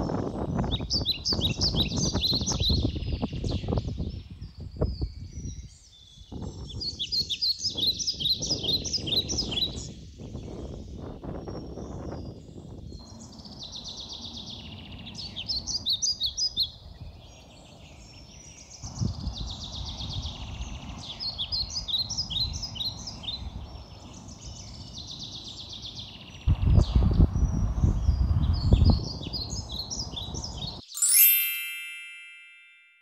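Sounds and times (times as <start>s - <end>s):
small birds chirping: 0.0s - 31.4s.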